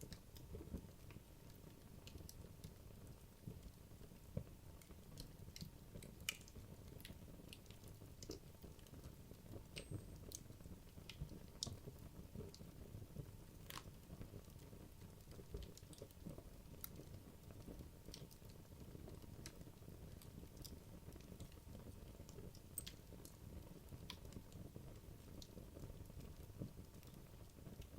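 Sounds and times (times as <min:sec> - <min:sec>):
fire crackles and pops: 0:00.0 - 0:27.9
low rustle of fire: 0:00.0 - 0:27.9.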